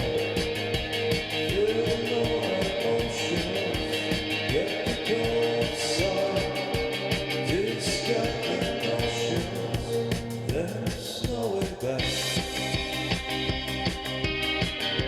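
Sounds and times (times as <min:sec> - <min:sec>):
fast drum beat: 0:00.0 - 0:15.0
rock music with electric guitar: 0:00.0 - 0:15.0.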